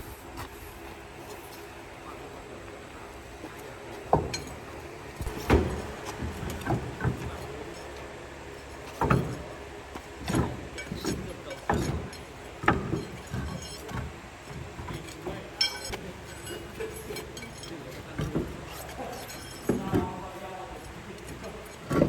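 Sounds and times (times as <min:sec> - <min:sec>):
metal clanks from hand tools: 0:03.5 - 0:22.0.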